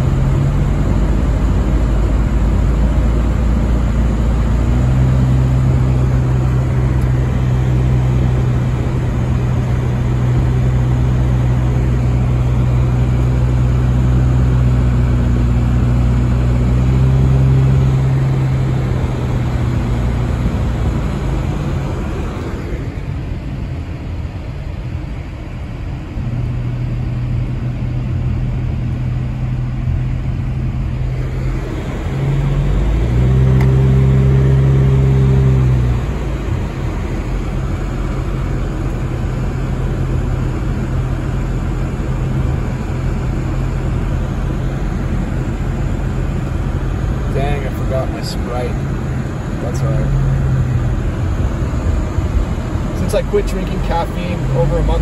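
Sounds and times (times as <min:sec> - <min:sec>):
car engine hum: 0:00.0 - 0:55.0.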